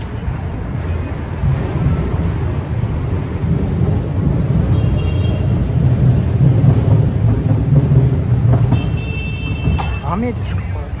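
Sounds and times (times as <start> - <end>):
loud low rumbling noise: 0.0 - 11.0.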